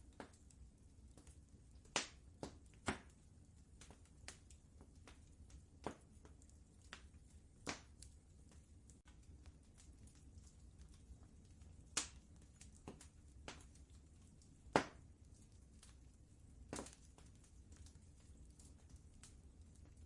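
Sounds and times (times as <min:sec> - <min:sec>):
faint low rumble: 0:00.0 - 0:20.0
wood fire crackling: 0:00.0 - 0:20.0.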